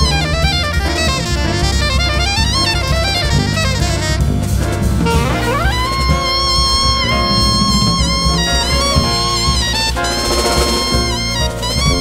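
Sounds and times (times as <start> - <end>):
bass: 0.0 - 12.0
drums: 0.0 - 12.0
soprano saxophone solo: 0.0 - 12.0.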